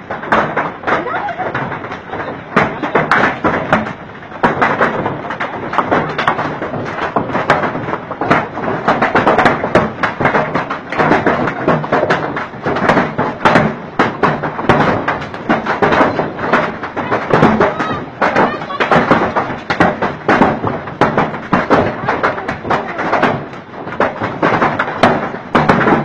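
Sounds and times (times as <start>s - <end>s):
hailstones clattering: 0.0s - 26.0s.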